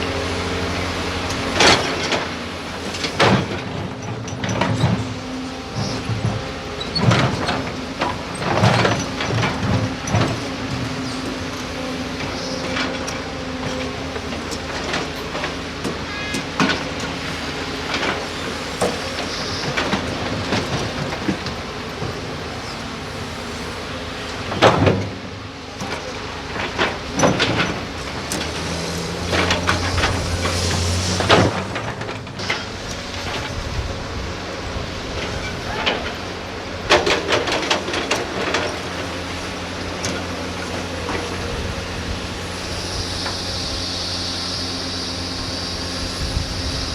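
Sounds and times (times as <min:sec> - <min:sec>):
excavator diesel engines running: 0:00.0 - 0:46.9.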